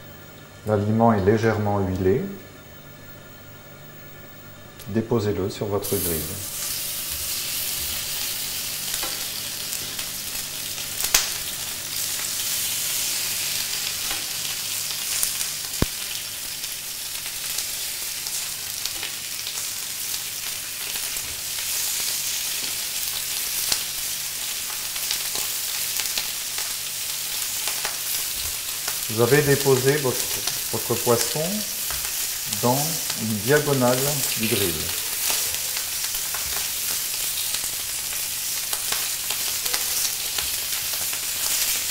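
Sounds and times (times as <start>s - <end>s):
fish sizzling on a grill: 5.8s - 41.9s.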